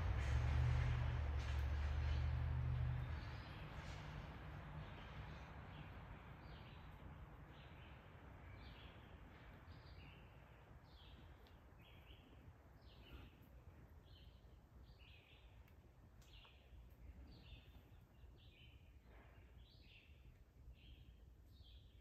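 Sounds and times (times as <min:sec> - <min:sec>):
low outdoor rumble: 0:00.0 - 0:19.6.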